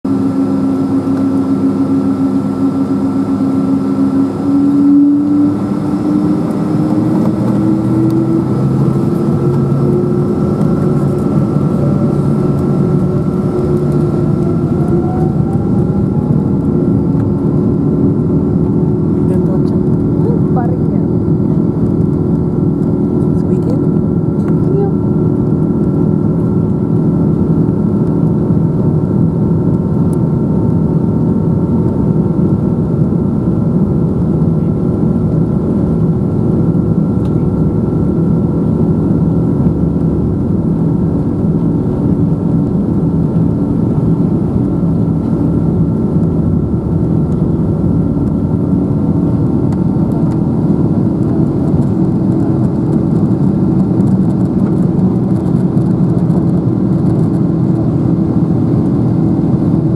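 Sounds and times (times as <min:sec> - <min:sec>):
jet engine whine: 0:00.0 - 0:59.9
jet engines deep rumble: 0:00.0 - 0:59.9.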